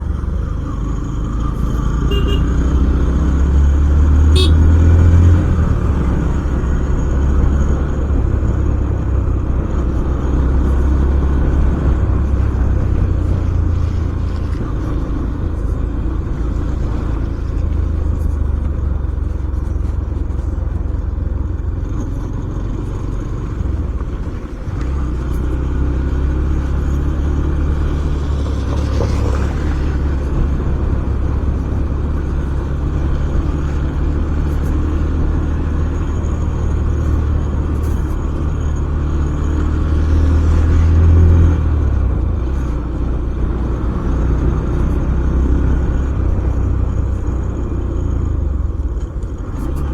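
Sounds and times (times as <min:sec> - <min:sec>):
motorcycle engine rumble: 0:00.0 - 0:49.9.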